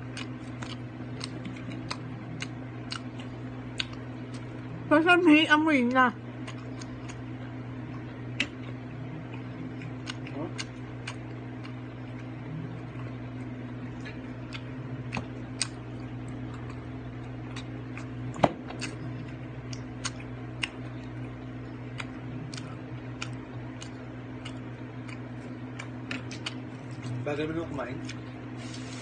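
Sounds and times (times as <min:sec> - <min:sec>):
person chewing: 0:00.0 - 0:04.6, 0:06.4 - 0:27.2, 0:28.0 - 0:29.0
steady low hum: 0:00.0 - 0:29.0.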